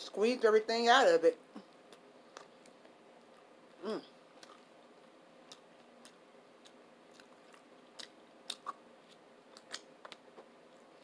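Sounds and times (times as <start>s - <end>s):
person chewing with wet smacks: 1.6s - 10.8s.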